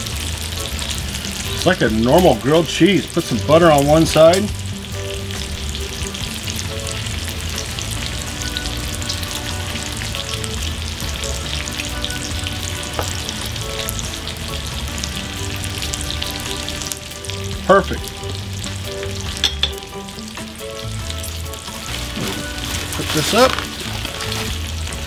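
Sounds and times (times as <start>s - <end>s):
bacon sizzling on griddle: 0.0s - 25.0s.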